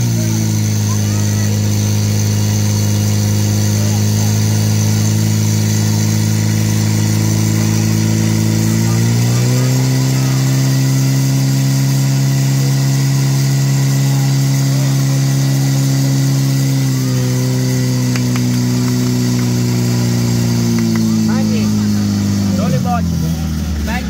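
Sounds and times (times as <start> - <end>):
pump engine running at high speed: 0.0 - 24.0.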